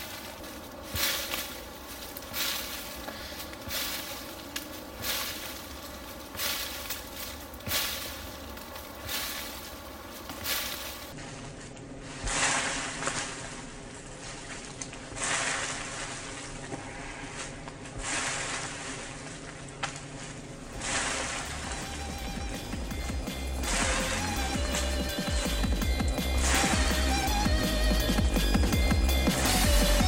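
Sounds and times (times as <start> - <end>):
branches and dry leaves rustling: 0.0 - 30.0.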